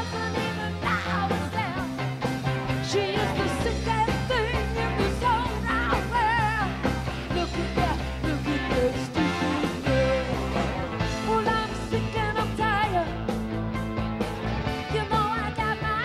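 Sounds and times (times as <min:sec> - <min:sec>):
woman singing lead: 0:00.0 - 0:13.3, 0:14.8 - 0:16.0
live rock band playing: 0:00.0 - 0:16.0.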